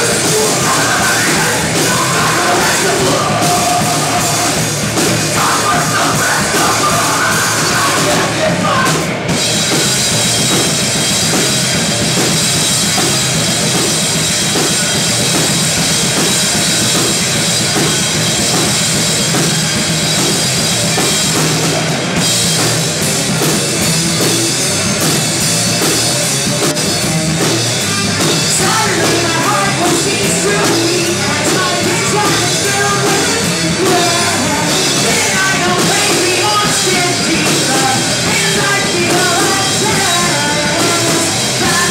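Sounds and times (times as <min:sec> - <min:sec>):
heavy metal band playing live: 0:00.0 - 0:41.9.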